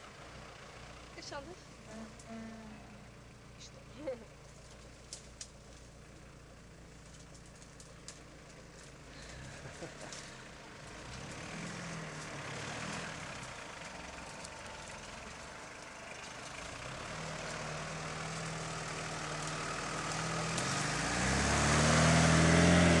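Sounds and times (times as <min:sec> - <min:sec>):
off-road vehicle engine low revs: 0:00.0 - 0:23.0.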